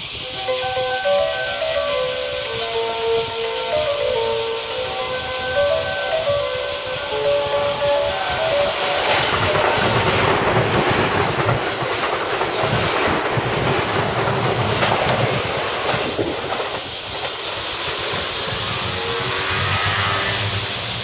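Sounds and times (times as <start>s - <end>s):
electric train passing at speed: 0.0s - 21.0s
wheels clacking over rail joints: 0.1s - 21.0s.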